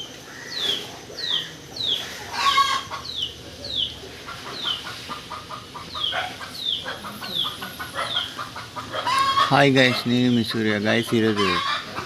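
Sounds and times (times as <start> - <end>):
fast clucking bird notes: 1.2 - 12.0.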